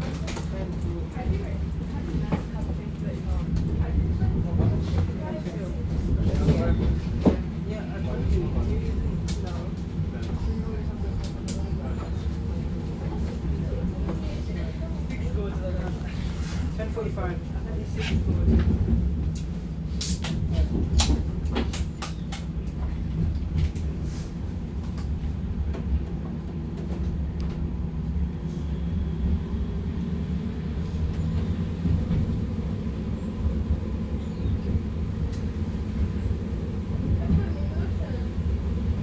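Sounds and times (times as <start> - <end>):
tram wheels rumbling on rail: 0.0 - 39.0.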